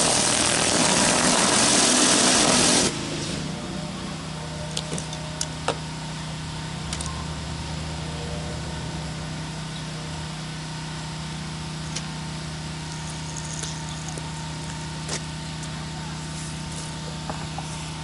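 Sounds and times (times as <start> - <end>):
pressure washer humming: 0.0 - 18.0.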